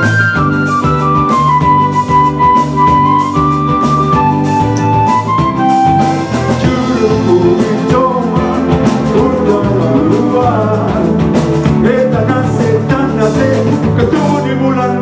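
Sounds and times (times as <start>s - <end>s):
bass line: 0.0s - 15.0s
drums: 0.0s - 15.0s
lead melody: 0.0s - 15.0s.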